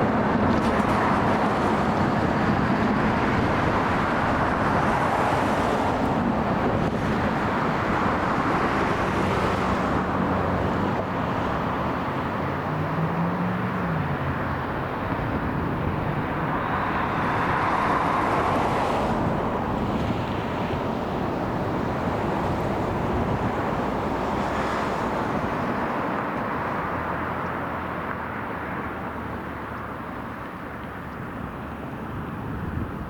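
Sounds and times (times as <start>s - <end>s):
passenger train passing: 0.0s - 26.7s.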